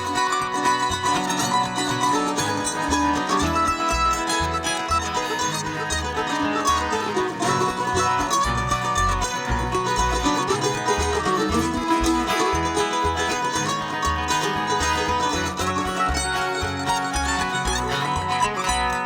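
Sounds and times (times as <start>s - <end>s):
plucked string instruments: 0.0s - 19.0s
steady bass line: 0.0s - 19.0s.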